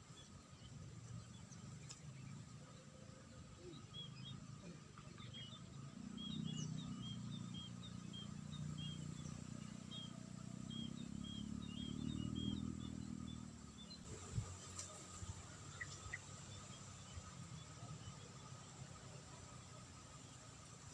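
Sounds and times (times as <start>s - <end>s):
faint insect-like whine: 0.0s - 20.9s
small birds chirping: 0.0s - 20.9s.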